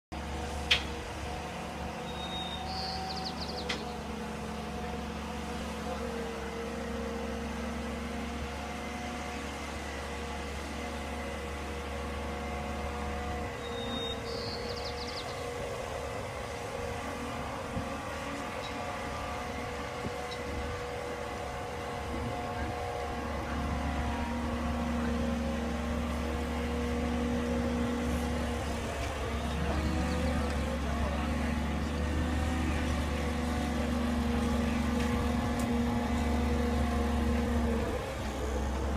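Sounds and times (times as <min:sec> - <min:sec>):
travel lift engine whining: 0:00.2 - 0:38.9.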